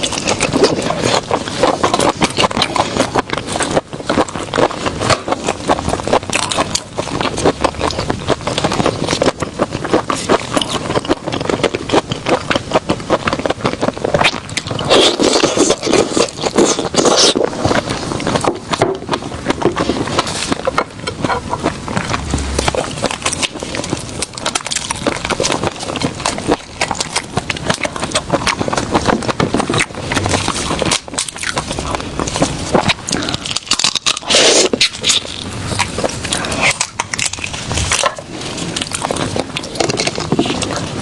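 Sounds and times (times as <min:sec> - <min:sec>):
seafood being chewed crunching: 0:00.0 - 0:41.0.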